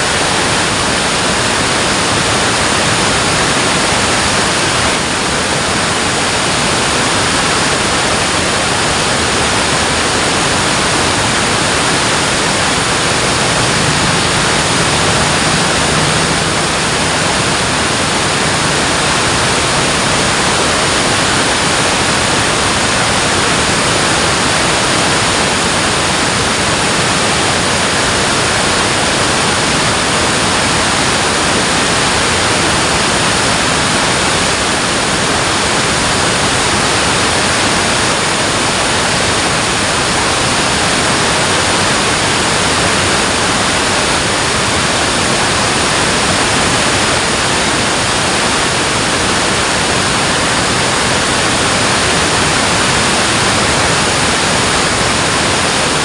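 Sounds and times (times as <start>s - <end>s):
water rushing through a dam: 0.0s - 56.0s.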